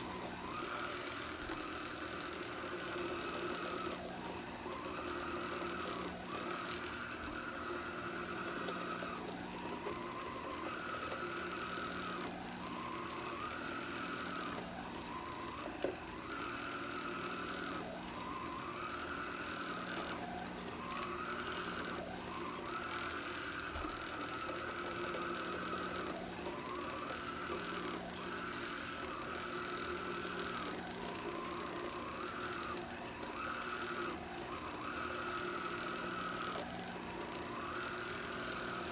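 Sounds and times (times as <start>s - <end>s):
handheld vacuum motor whining: 0.0s - 38.9s.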